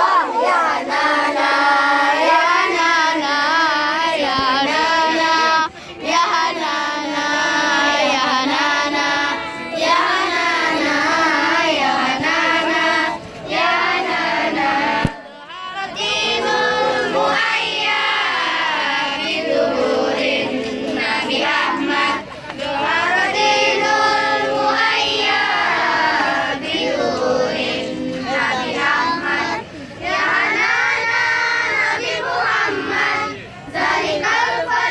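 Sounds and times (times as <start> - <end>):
children singing together: 0.0 - 34.9.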